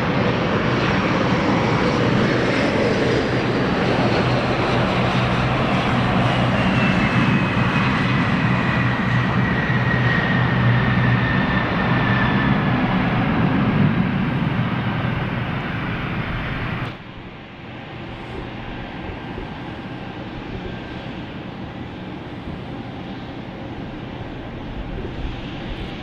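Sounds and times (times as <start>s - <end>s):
jet engines whining: 0.0s - 26.0s.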